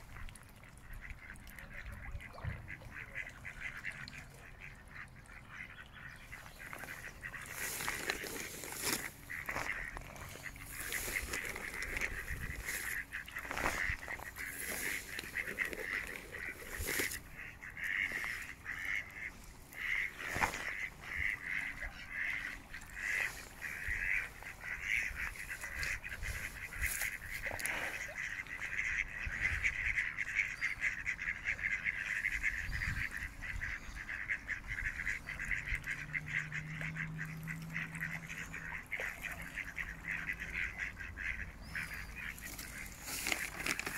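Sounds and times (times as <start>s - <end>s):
ducks quacking: 0.1s - 43.9s.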